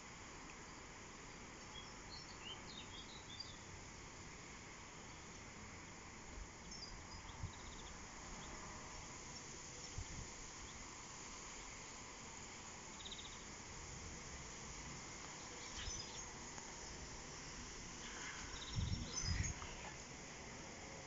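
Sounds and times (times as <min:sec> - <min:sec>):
steady rustling hiss: 0:00.0 - 0:21.0.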